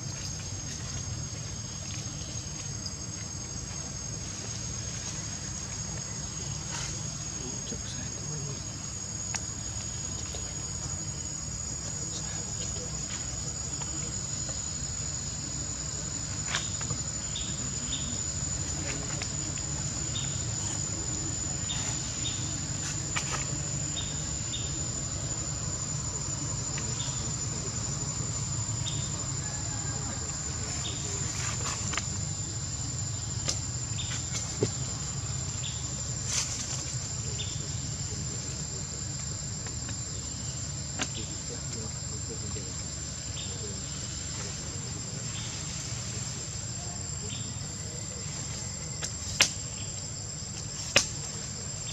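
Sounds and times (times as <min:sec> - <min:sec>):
insects droning: 0:00.0 - 0:51.9
low steady rumble: 0:00.0 - 0:51.9.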